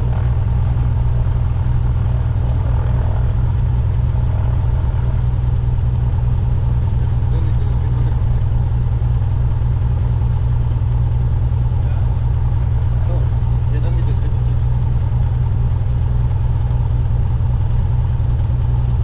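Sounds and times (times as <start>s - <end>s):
piston engine and propeller drone: 0.0s - 19.0s.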